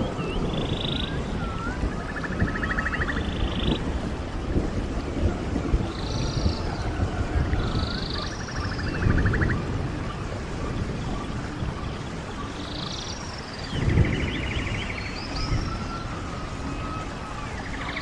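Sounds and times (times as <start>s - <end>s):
birds singing: 0.0s - 3.9s, 5.8s - 18.0s
stream running: 0.0s - 18.0s.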